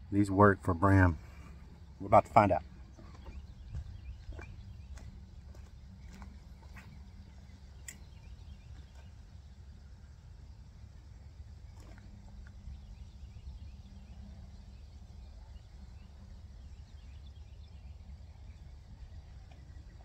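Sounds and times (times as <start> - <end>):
distant birds chirping: 0.0 - 20.0.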